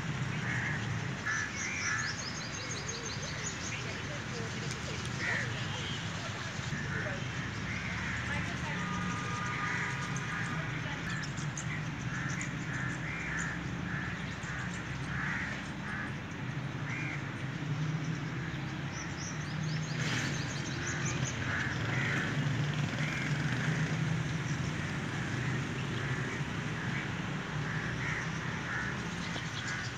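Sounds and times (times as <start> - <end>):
birds calling: 0.0 - 29.9.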